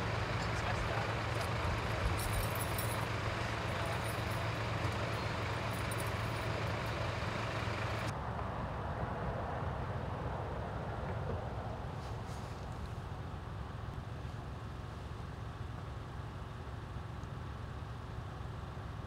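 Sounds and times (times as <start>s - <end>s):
vehicle engine idling: 0.0s - 8.4s, 11.5s - 19.0s.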